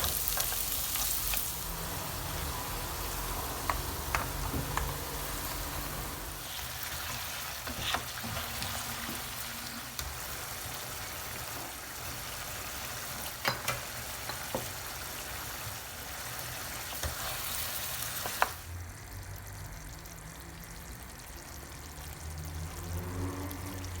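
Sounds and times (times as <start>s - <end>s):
liver sizzling in a frying pan: 0.0s - 24.0s.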